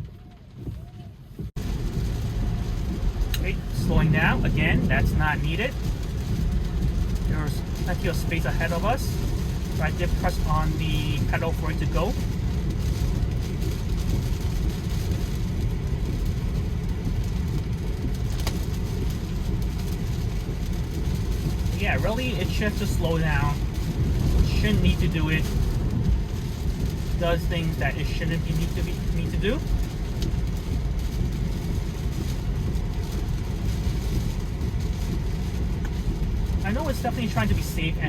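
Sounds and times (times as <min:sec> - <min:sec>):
heavy rain on car: 0:00.0 - 0:38.0
tyre road and wind noise: 0:00.0 - 0:38.0.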